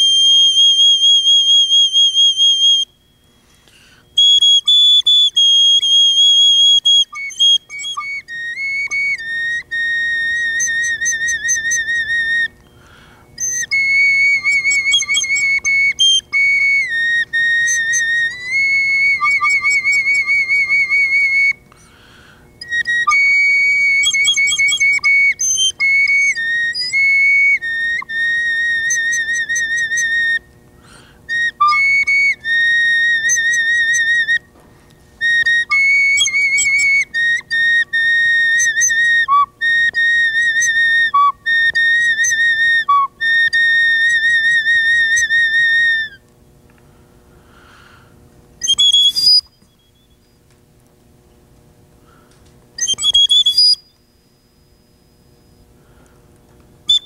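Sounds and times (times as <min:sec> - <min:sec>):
flute playing long notes: 0:00.0 - 0:46.2.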